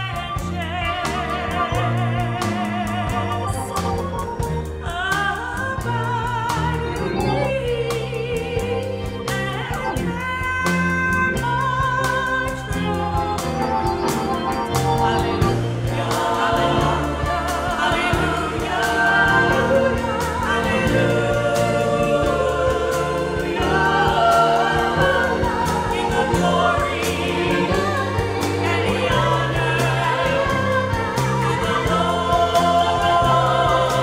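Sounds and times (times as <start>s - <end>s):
choir singing a hymn: 0.0s - 10.2s, 11.2s - 34.0s
instrumental accompaniment: 0.0s - 34.0s
steady percussion beat: 0.0s - 34.0s.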